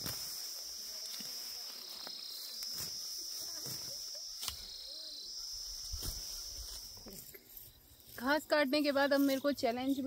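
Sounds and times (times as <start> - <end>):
grass rustling: 0.0 - 10.0
insects chirring: 0.0 - 10.0.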